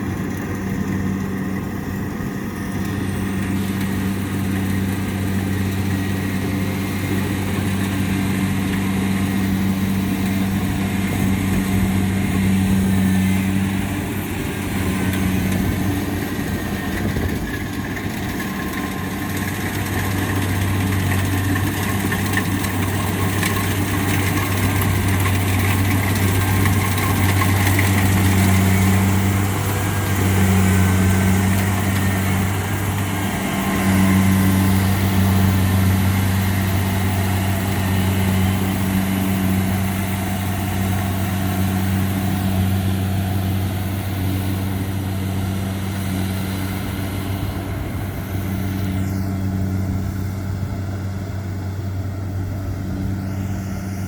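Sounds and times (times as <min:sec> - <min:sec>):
harvester engine humming: 0:00.0 - 0:54.0.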